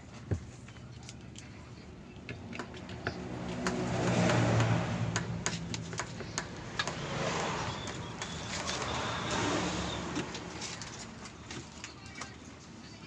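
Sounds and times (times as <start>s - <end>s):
engine hum: 0.0s - 11.8s.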